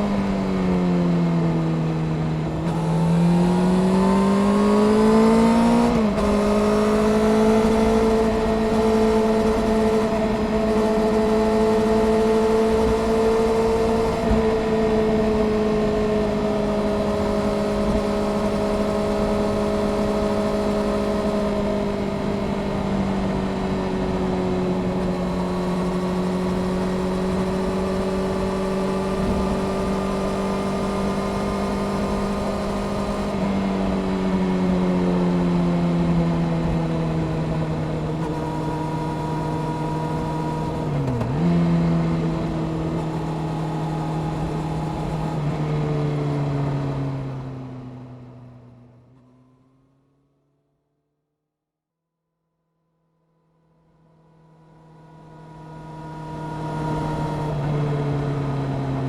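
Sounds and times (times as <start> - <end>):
motorcycle engine revving: 2.4 - 47.4, 54.2 - 59.0.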